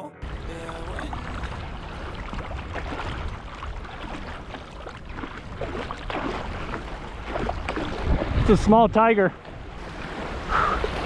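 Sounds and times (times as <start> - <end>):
surf washing: 0.0 - 11.0
water splashing: 0.2 - 11.0
wind buffeting microphone: 0.2 - 11.0.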